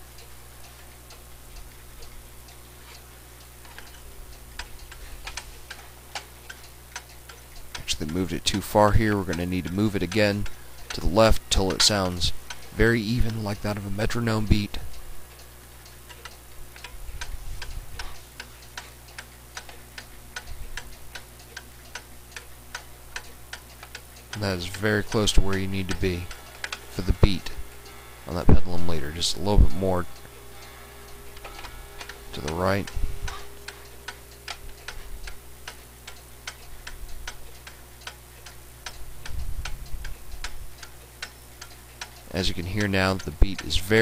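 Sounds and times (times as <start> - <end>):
clock ticking: 0.0 - 44.0.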